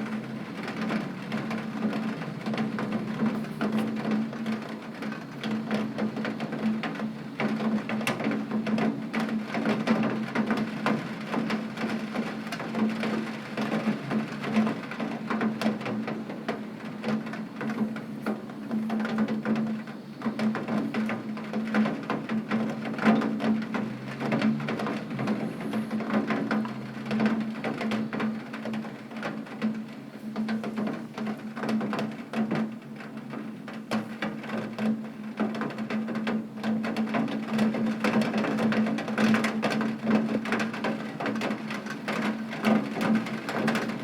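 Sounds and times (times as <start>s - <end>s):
rain on a tin roof: 0.0s - 44.0s.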